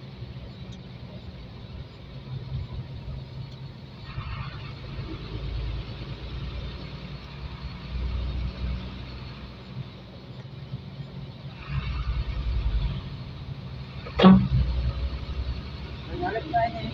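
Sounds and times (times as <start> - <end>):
diesel engine running: 0.0 - 16.9
road rumble: 0.0 - 16.9.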